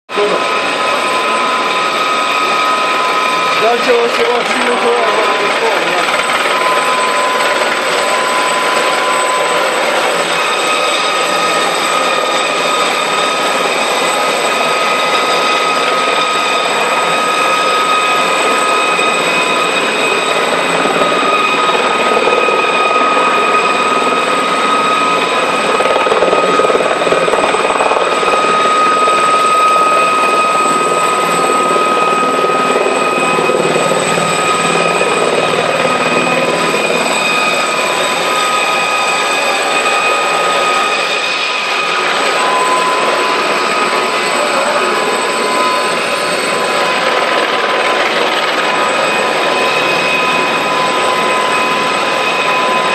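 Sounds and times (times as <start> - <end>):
helicopter rotor and engine: 0.1 - 52.9.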